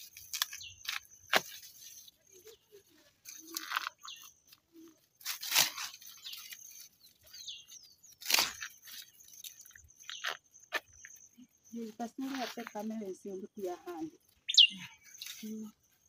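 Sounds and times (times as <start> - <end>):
dry leaves crackling and tearing: 0.0 - 10.9, 11.8 - 16.0
soft leaf rustling: 0.0 - 11.1, 11.7 - 16.0.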